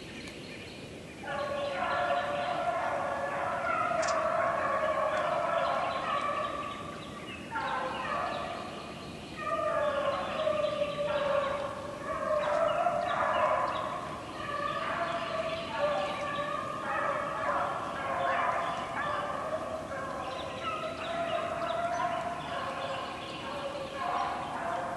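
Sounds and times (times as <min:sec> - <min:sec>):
dogs baying in chorus: 0:01.2 - 0:08.7, 0:09.4 - 0:24.9.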